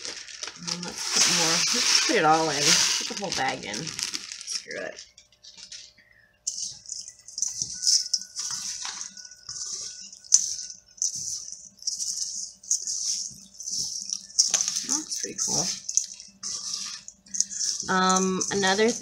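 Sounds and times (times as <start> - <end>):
gritty stirring in metal bowl: 0.0 - 19.0.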